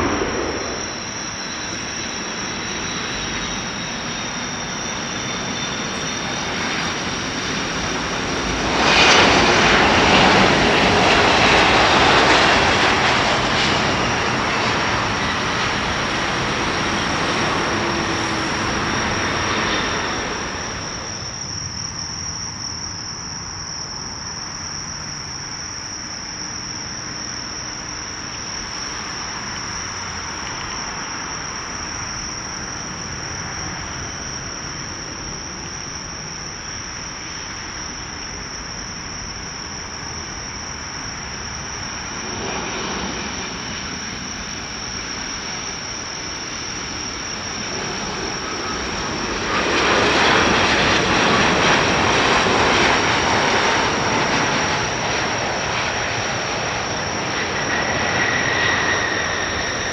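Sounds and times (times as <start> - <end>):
cricket trill: 0.0 - 59.9
jet engines rushing: 0.0 - 59.9.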